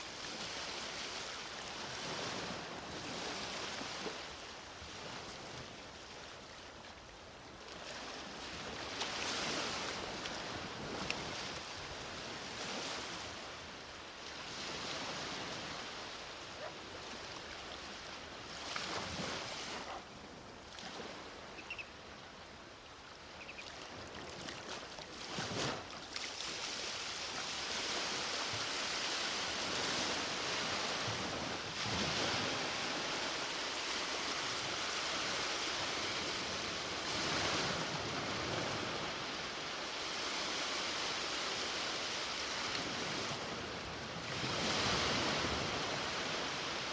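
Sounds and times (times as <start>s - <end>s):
sea waves breaking on beach: 0.0s - 21.8s, 23.1s - 46.9s.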